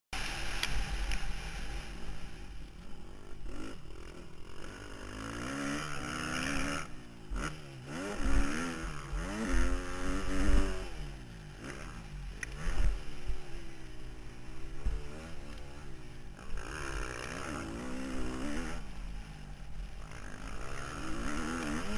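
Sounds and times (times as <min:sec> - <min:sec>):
low rumble of riding: 0:00.2 - 0:21.9
motocross engine revving: 0:02.9 - 0:21.9.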